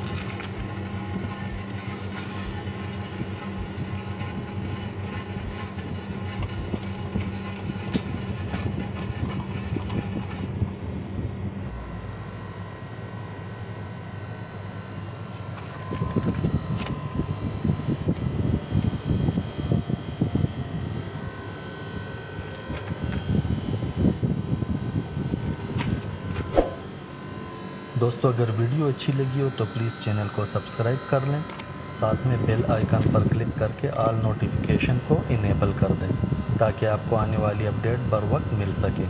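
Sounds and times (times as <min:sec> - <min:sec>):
air conditioner unit humming: 0:00.0 - 0:39.0
fan air buffeting microphone: 0:00.0 - 0:39.0.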